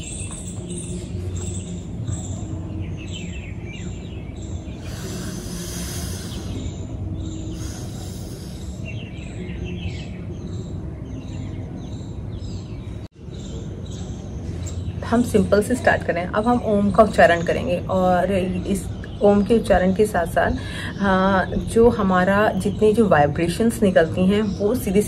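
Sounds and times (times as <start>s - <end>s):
low outdoor hum: 0.0s - 25.0s
small birds chirping: 0.0s - 25.0s.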